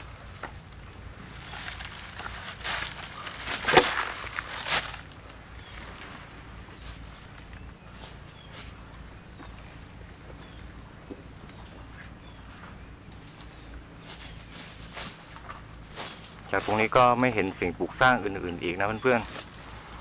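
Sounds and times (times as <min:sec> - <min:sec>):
insects trilling: 0:00.0 - 0:20.0
rustles in undergrowth: 0:00.0 - 0:20.0.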